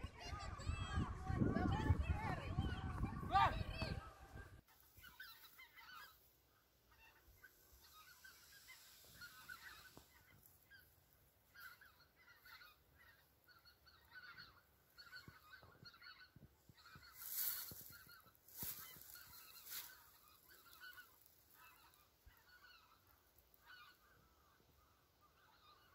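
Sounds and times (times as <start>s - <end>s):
geese honking: 0.2s - 25.9s.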